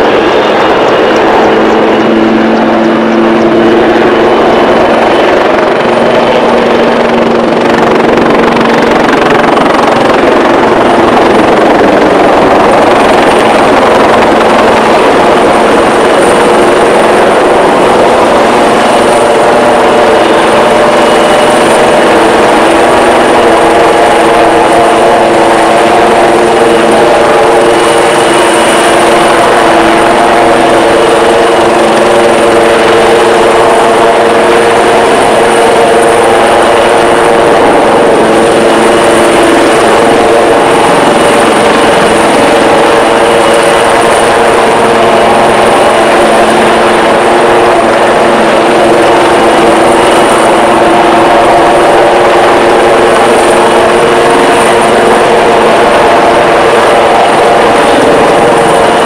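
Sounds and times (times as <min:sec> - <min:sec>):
faint high whine: 0:00.0 - 0:59.0
helicopter rotor and engine: 0:00.0 - 0:59.0
multi-tone hum: 0:00.0 - 0:59.0.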